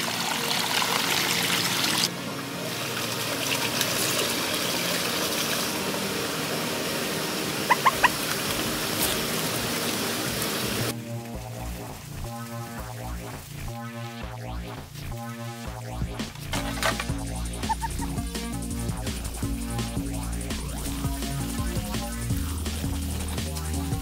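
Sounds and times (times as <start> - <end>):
water pouring from a pipe: 0.0 - 24.0.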